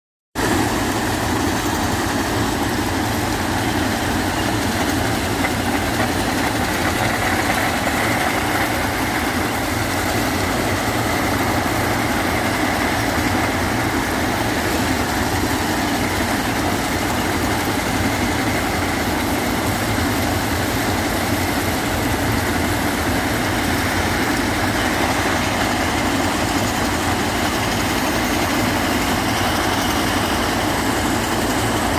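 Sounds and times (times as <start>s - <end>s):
ballast cleaning machine running: 0.4s - 31.9s.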